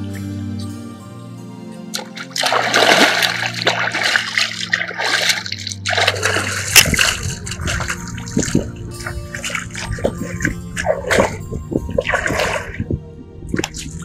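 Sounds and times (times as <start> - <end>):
background music: 0.0 - 14.0
muddy water splashing: 1.9 - 14.0.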